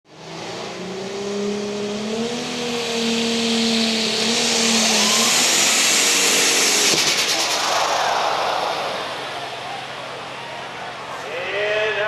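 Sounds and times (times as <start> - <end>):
tractor engine at high revs: 0.1 - 11.2.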